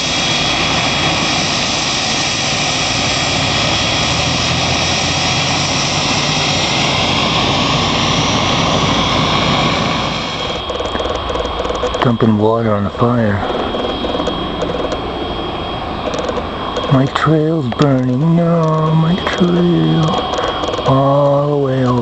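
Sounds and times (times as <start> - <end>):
helicopter turbine engine running: 0.0 - 22.0
high turbine whine: 0.0 - 22.0.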